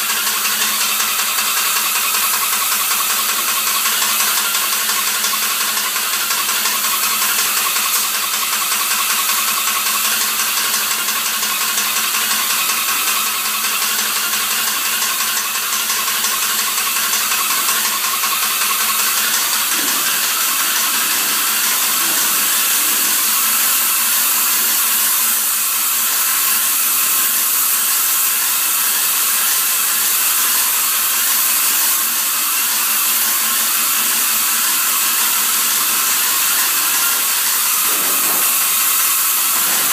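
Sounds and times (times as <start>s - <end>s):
spray machine hissing and pulsing: 0.0s - 39.9s.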